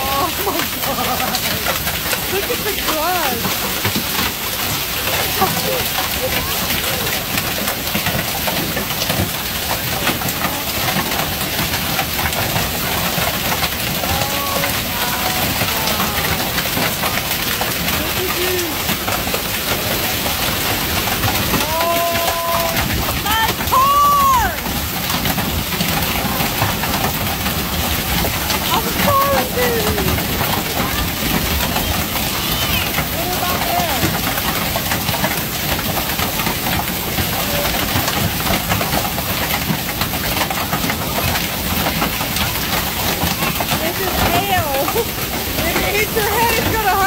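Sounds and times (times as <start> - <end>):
hailstones ticking: 0.0 - 47.0
heavy rain hissing: 0.0 - 47.0.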